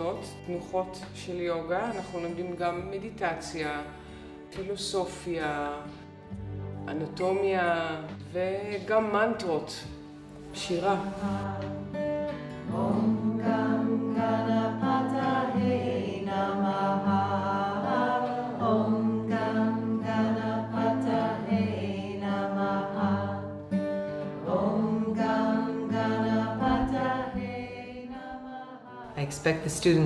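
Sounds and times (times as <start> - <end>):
acoustic guitar strumming: 0.0 - 28.3.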